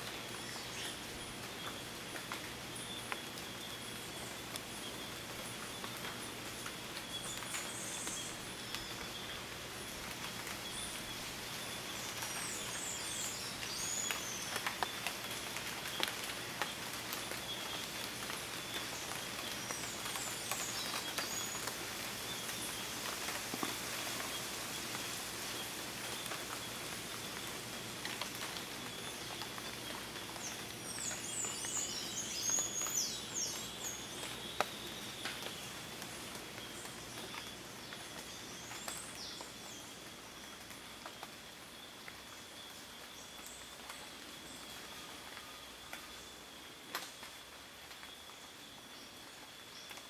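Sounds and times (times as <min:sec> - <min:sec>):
drips off wet leaves: 0:00.0 - 0:50.0
birds chirping: 0:00.1 - 0:40.7.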